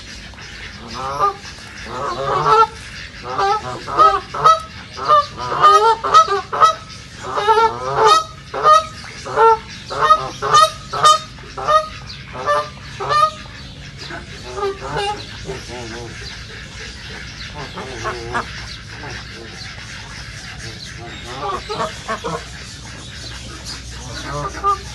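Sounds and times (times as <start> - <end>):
ducks quacking: 0.0 - 24.9.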